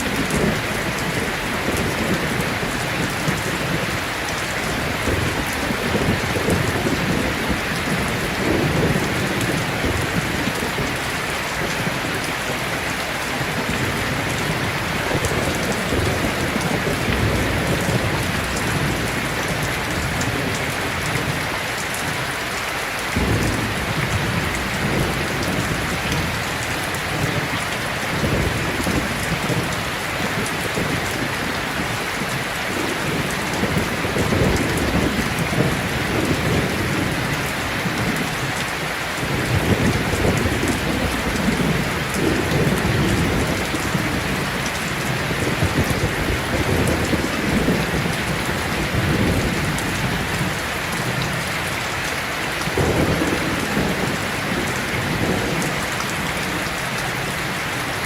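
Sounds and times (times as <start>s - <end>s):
thunder rumbling: 0.0s - 21.9s, 23.1s - 52.0s, 52.6s - 57.6s
heavy rain pouring: 0.0s - 58.0s.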